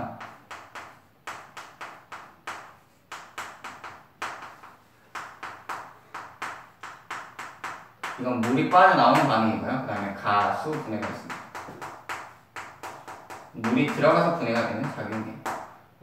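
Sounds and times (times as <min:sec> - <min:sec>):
chalk tapping on a blackboard: 0:00.1 - 0:15.8.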